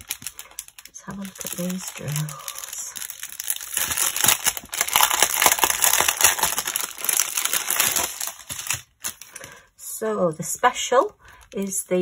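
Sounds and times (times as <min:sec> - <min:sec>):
plastic bags crinkling: 0:00.0 - 0:09.7.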